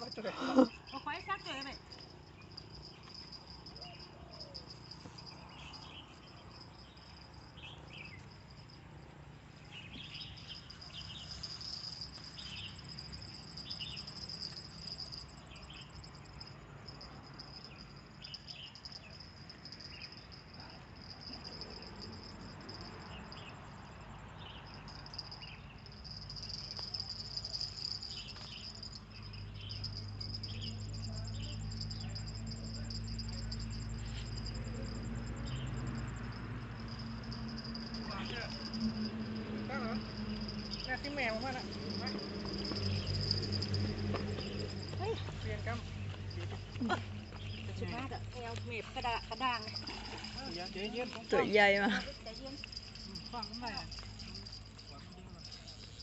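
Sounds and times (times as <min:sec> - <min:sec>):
short insect chirps: 0:00.0 - 0:45.3
crickets droning: 0:00.0 - 0:56.0.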